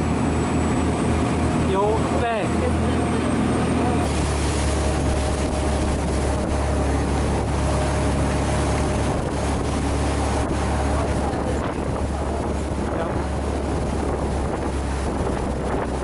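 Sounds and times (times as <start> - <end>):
boat engine droning: 0.0 - 16.0
water noise: 0.0 - 16.0
wind buffeting microphone: 0.0 - 16.0.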